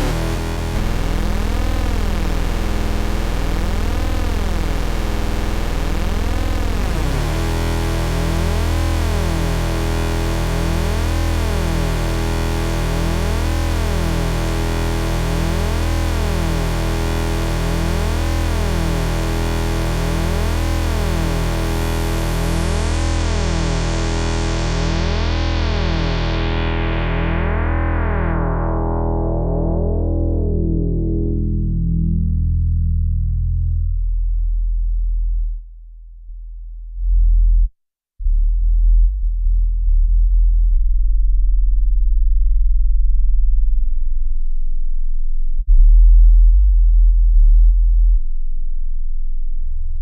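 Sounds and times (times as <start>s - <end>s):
distorted synth bass note: 0.0s - 35.6s, 36.9s - 50.0s.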